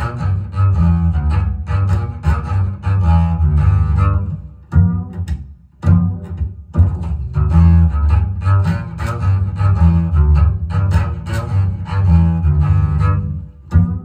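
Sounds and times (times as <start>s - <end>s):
jazz with double bass on loudspeakers: 0.0s - 14.0s.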